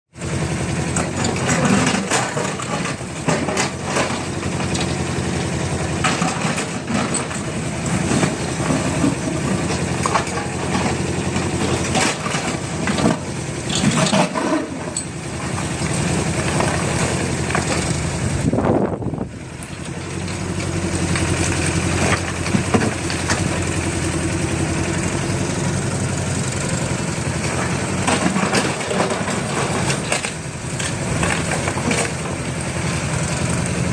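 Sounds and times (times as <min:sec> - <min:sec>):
excavator diesel engine running: 0:00.2 - 0:33.9.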